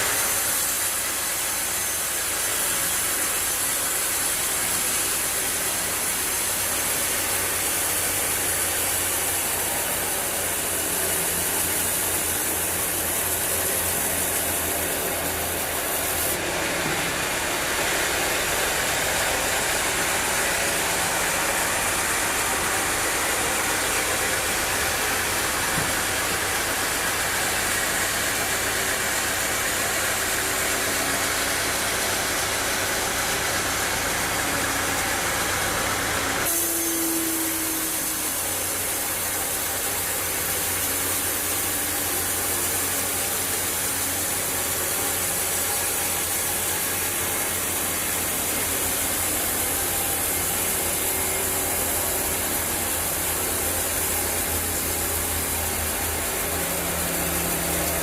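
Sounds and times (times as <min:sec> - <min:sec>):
sawmill machinery hiss: 0:00.0 - 0:58.0.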